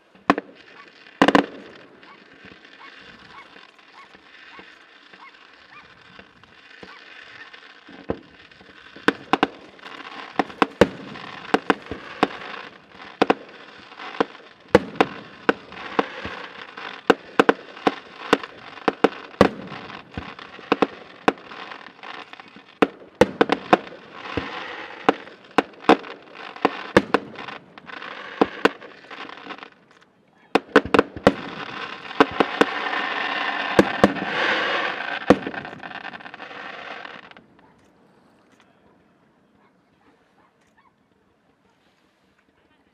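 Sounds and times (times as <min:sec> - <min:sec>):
fireworks bangs: 0:00.0 - 0:38.4
fireworks crackling: 0:00.0 - 0:40.8.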